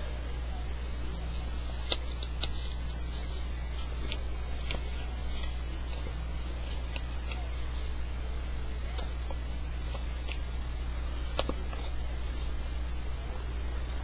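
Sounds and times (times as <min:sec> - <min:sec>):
low electrical hum: 0:00.0 - 0:14.0
paper crinkling: 0:00.4 - 0:08.1, 0:08.8 - 0:14.0.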